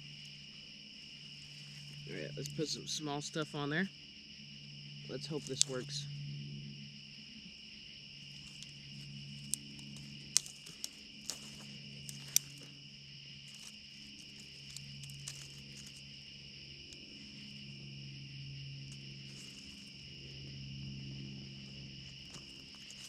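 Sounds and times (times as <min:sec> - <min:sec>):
crickets and insects chirping: 0:00.0 - 0:23.0.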